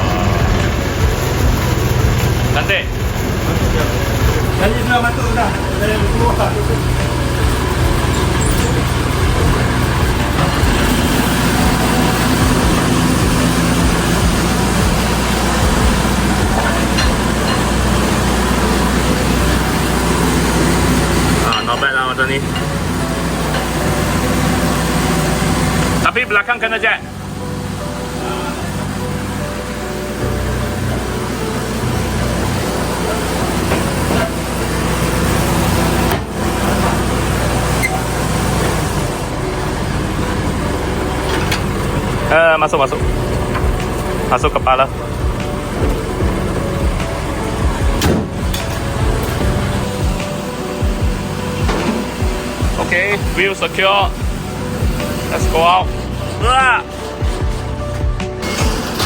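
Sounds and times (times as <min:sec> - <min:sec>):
tow truck engine hum: 0:00.0 - 0:59.0.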